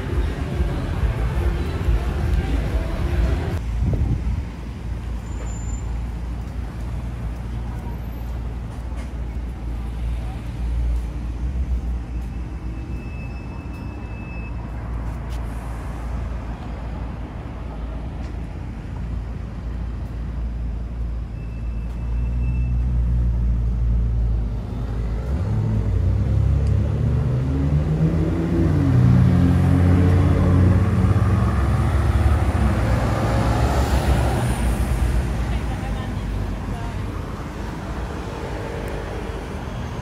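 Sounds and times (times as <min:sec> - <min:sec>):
heavy vehicle engine: 0:00.0 - 0:40.0
traffic engine rumble: 0:00.0 - 0:40.0.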